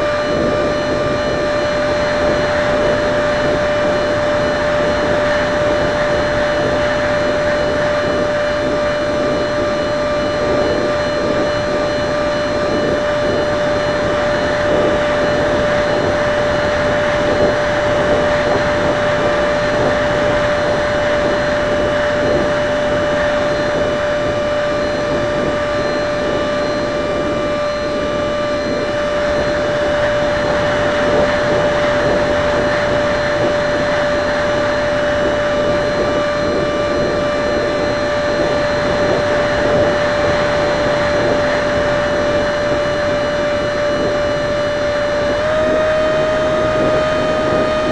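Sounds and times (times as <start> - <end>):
ducted fan jet whining: 0.0 - 47.9.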